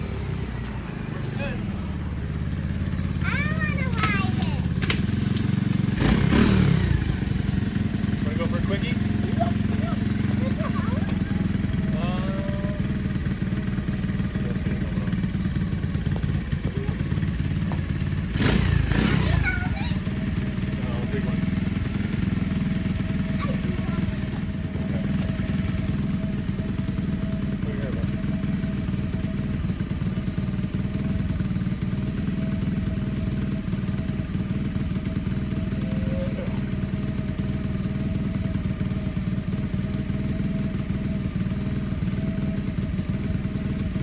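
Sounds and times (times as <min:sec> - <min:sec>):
minibike engine idling: 0:00.0 - 0:44.0.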